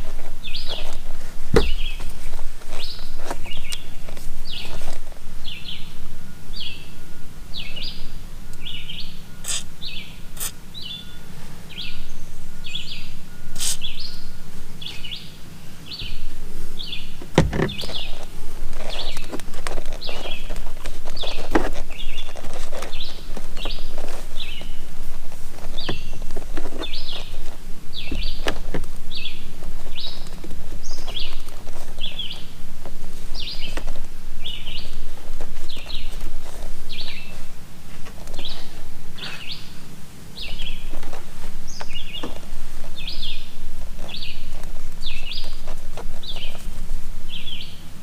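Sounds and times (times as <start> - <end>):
bird chirping: 0.0 - 48.0.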